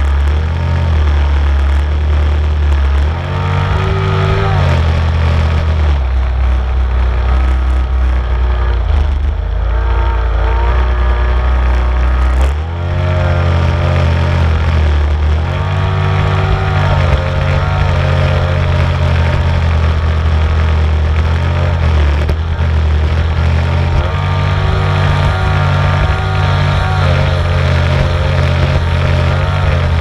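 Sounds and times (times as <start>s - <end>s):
engine running loudly: 0.0s - 30.0s.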